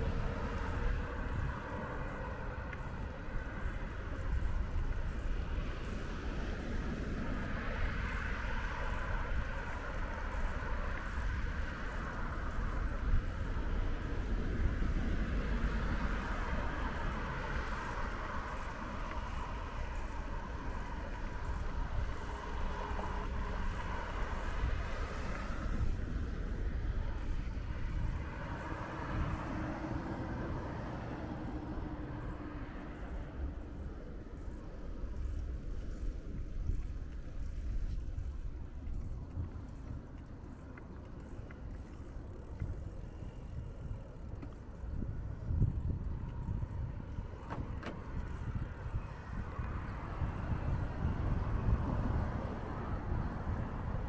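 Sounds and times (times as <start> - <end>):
low traffic rumble: 0.0 - 54.0
vehicles going by: 0.0 - 54.0.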